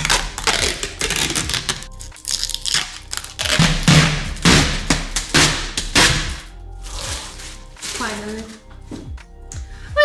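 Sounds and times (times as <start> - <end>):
plastic being crumpled: 0.0 - 8.8
plastic packing crackling: 0.0 - 8.9.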